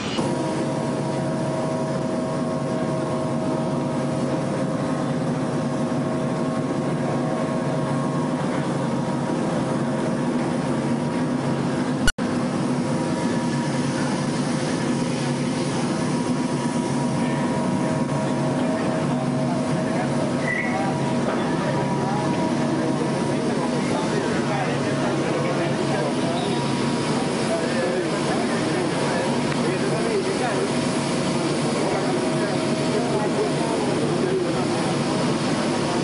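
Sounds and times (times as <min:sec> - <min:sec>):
aircraft engines droning: 0:00.0 - 0:36.0.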